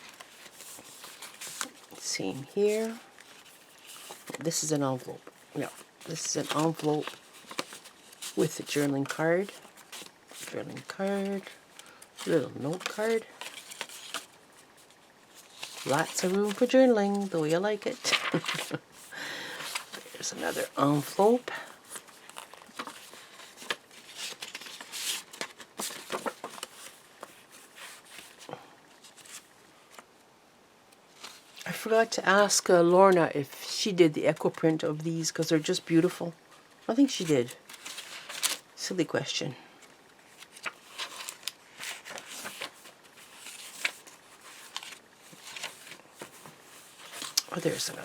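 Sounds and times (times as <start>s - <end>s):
paper rustling and sliding: 0.0s - 30.0s, 37.2s - 38.6s, 40.2s - 48.0s.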